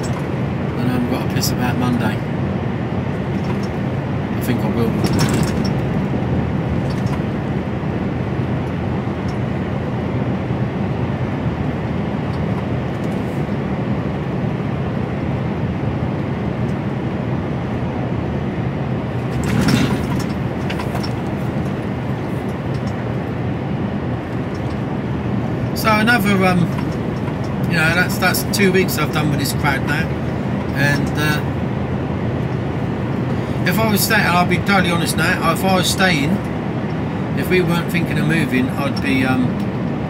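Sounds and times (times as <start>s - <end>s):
lorry diesel engine drone: 0.0s - 40.0s
road noise: 0.0s - 40.0s.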